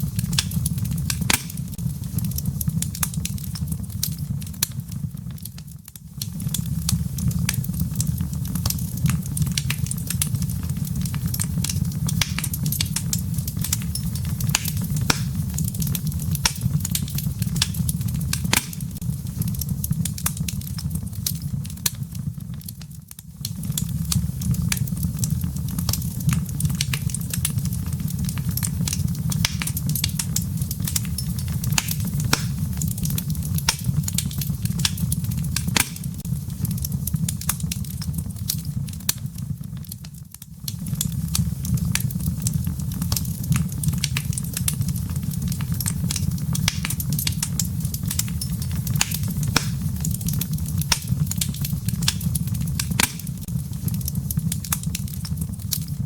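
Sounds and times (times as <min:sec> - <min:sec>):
low rumble of flames: 0:00.0 - 0:56.0
wood fire snapping and popping: 0:00.0 - 0:56.0.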